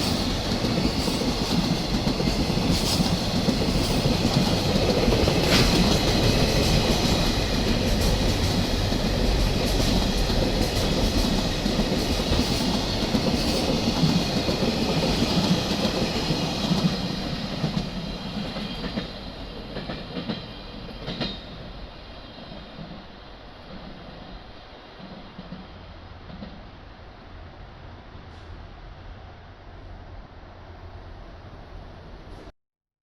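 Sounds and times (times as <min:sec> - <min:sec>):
train running past: 0:00.0 - 0:32.5.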